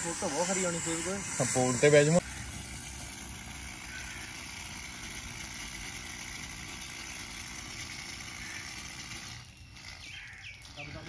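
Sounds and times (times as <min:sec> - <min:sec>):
steady hiss: 0:00.0 - 0:09.4
engine idling: 0:00.0 - 0:09.5.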